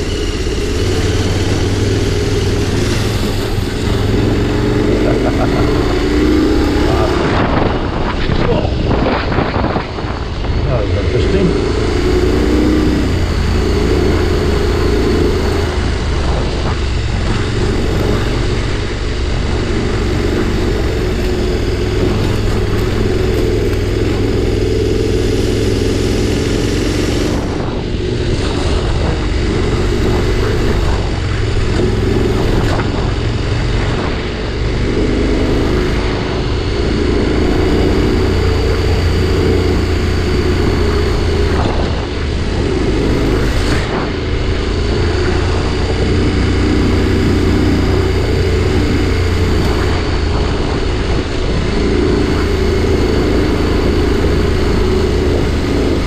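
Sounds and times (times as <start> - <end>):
motorcycle engine revving: 0.0 - 56.0
road noise: 0.0 - 56.0.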